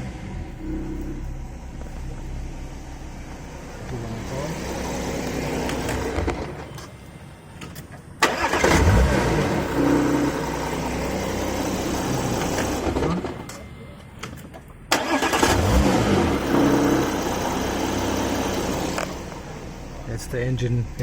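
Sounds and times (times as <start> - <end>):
car engine starting and idling: 0.0 - 21.0.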